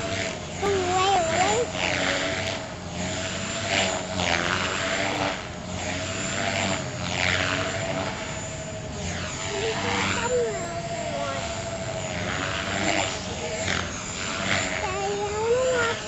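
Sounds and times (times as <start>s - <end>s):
high motor whine: 0.0s - 16.0s
rotor whoosh: 0.0s - 16.0s.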